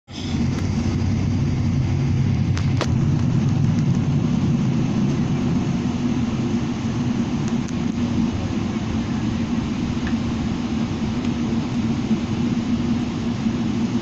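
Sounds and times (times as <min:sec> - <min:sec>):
aircraft cabin low rumble: 0:00.1 - 0:14.0.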